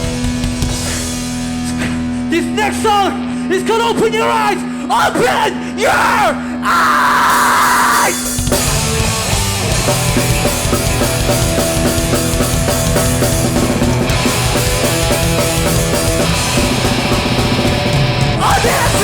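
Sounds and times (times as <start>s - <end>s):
bass guitar: 0.0s - 3.5s, 7.2s - 19.0s
fast driving drums: 0.0s - 4.6s, 7.0s - 19.0s
distorted electric guitars: 0.0s - 19.0s.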